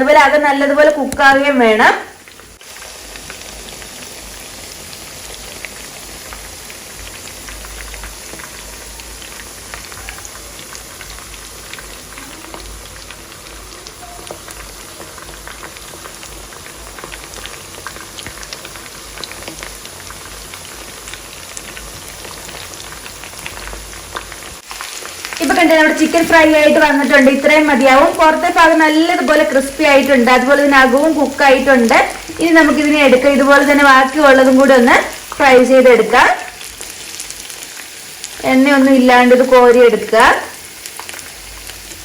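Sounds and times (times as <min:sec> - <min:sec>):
chicken deep-frying in oil: 0:00.0 - 0:42.0.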